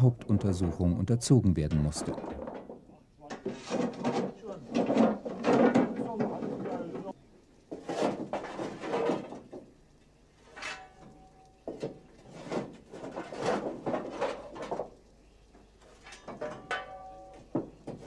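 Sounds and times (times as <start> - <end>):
coal briquettes clattering: 0.0 - 18.0.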